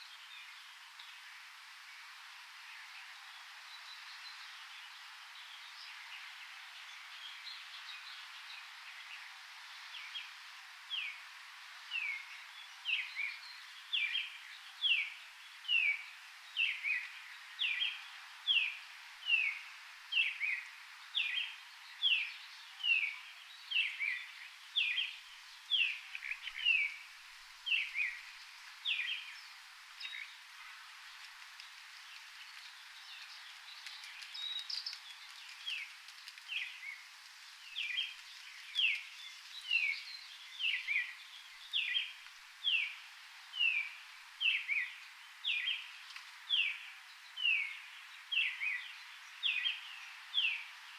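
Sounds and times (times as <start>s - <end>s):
background hiss: 0.0s - 50.9s.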